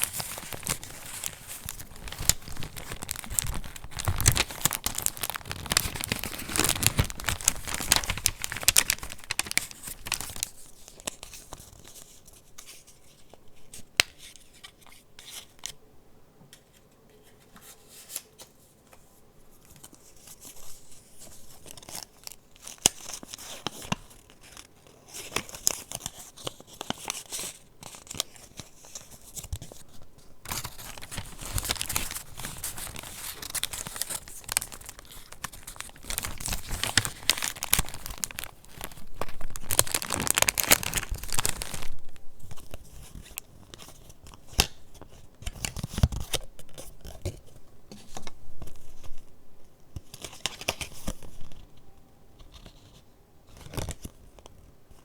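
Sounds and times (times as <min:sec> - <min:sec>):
paper rustling and crinkling: 0:00.0 - 0:15.8, 0:16.6 - 0:49.3, 0:49.9 - 0:51.8, 0:52.4 - 0:55.0.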